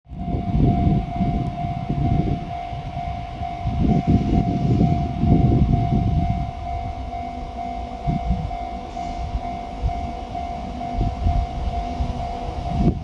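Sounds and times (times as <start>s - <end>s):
freight train rumble: 0.1s - 13.0s
level crossing alarm ringing: 0.1s - 13.0s.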